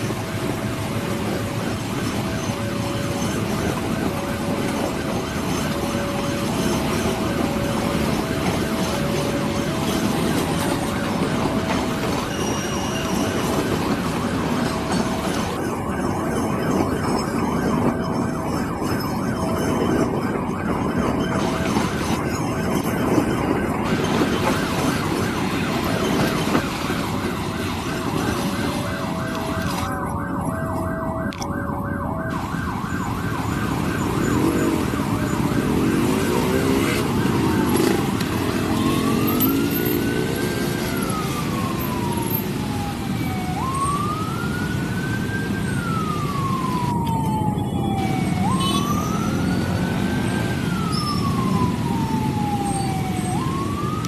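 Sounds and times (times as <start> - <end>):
train rolling past: 0.0 - 31.4, 32.1 - 44.5
ambulance siren wailing: 0.0 - 54.0
crossing alarm ringing: 0.0 - 54.0
traffic: 0.0 - 54.0.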